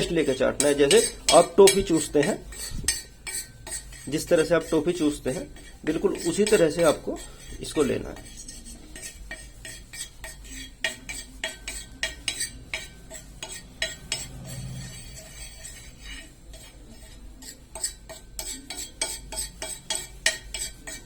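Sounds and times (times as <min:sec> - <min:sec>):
metal utensil scraping on iron pan: 0:00.0 - 0:21.0.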